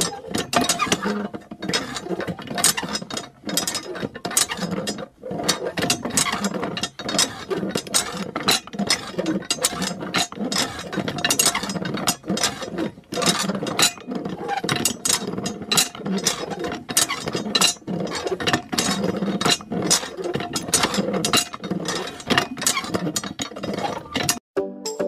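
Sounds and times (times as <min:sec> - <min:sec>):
hand water pump clicking: 0:00.0 - 0:24.4.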